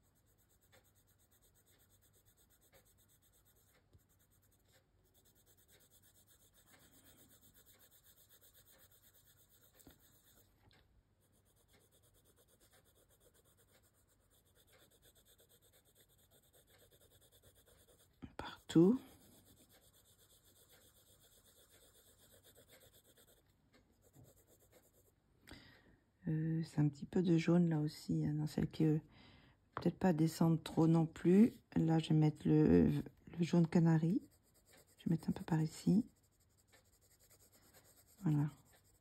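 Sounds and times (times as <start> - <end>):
pencil scratching on paper: 0.0 - 25.1, 30.6 - 39.0
pencil lead ticks: 0.0 - 25.2, 29.9 - 39.0.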